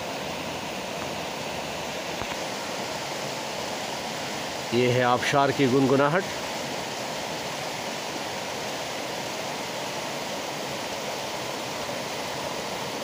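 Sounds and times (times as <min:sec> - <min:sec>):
waterfall rushing over rock: 0:00.0 - 0:13.0.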